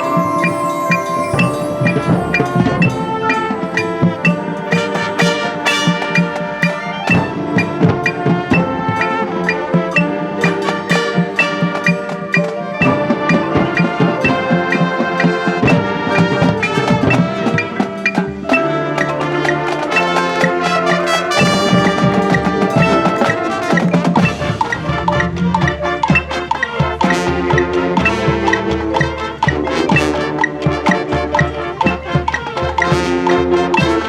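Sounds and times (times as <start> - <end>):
marching band playing: 0.0 - 34.0.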